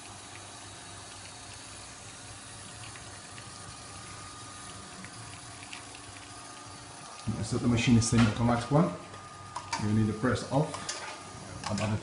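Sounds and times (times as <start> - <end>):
espresso machine pump humming: 0.0 - 12.0.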